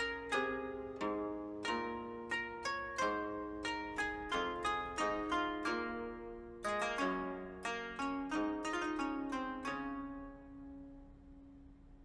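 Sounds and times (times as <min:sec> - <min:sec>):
plucked-string music: 0:00.0 - 0:12.0.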